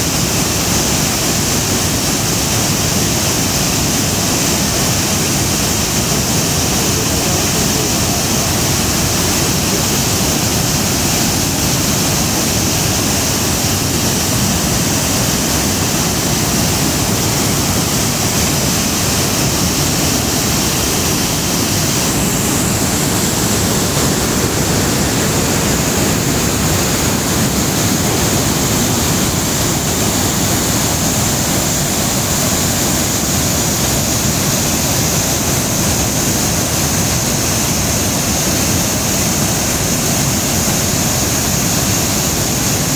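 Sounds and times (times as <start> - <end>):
water pouring over a dam wall: 0.0 - 42.9.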